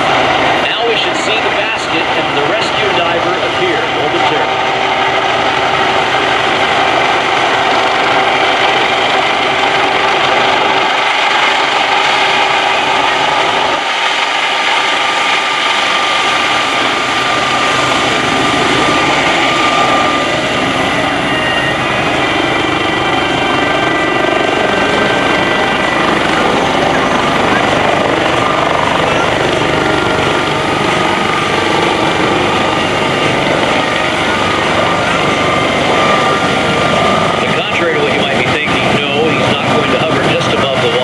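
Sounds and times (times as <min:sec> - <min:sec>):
helicopter hovering: 0:00.0 - 0:41.0
high steady whining tones: 0:00.0 - 0:41.0.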